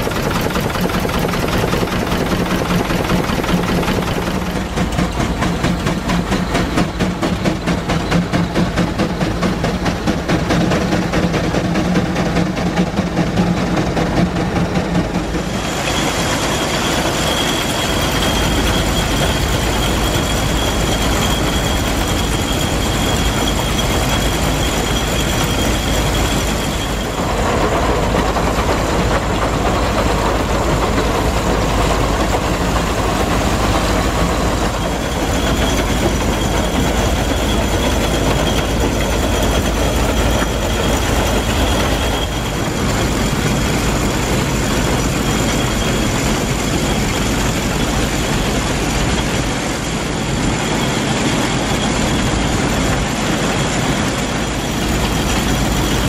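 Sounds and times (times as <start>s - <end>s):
threshing machine clatter and rumble: 0.0s - 56.0s.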